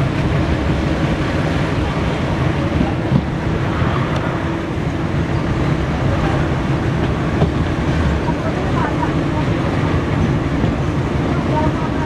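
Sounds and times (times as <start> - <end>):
low diesel engine drone: 0.0 - 12.0.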